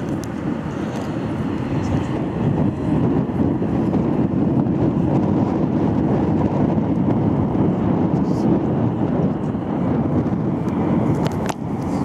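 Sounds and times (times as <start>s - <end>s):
airliner rumble in flight: 0.0s - 12.0s.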